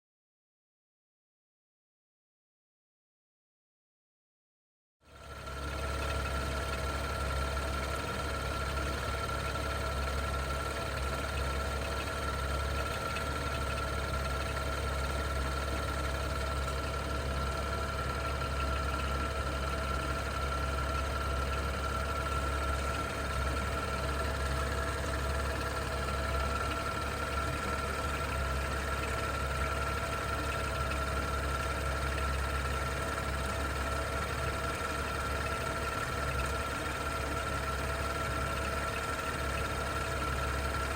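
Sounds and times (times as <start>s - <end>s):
car engine idling with ticking: 5.1s - 40.9s.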